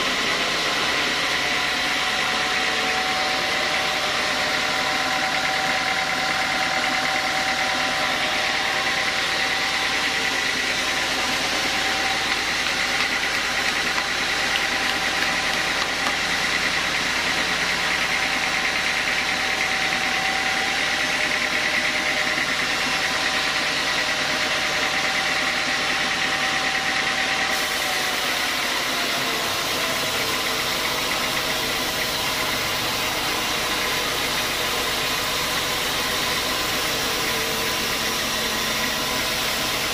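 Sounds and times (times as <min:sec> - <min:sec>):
sawmill saws whining: 0:00.0 - 0:39.9.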